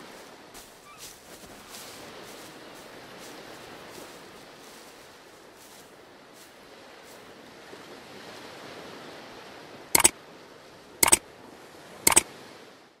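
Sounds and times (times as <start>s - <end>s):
soft surf-like hiss: 0.0s - 12.9s.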